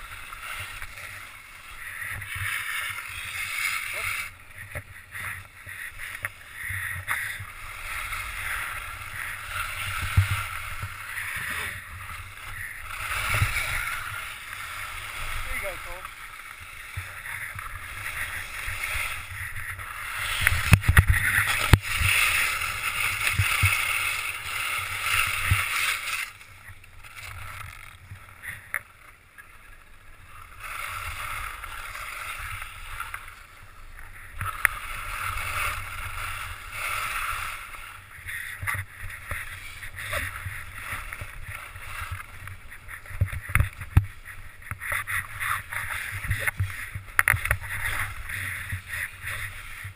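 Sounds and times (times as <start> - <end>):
skis scraping over snow: 0.0 - 49.9.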